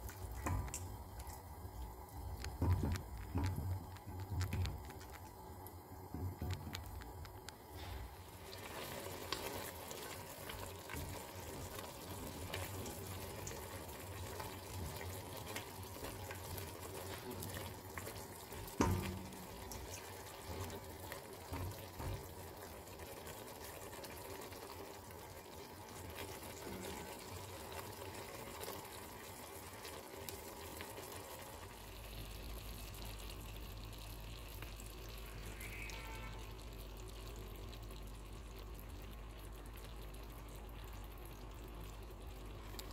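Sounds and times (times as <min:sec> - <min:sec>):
sauce simmering with sizzle: 0:00.0 - 0:42.9.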